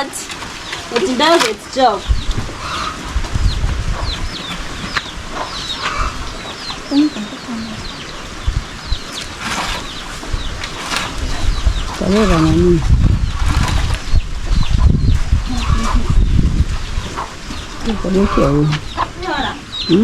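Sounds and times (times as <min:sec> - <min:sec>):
chickens chirping: 0:00.0 - 0:20.0
chickens clucking: 0:00.0 - 0:20.0.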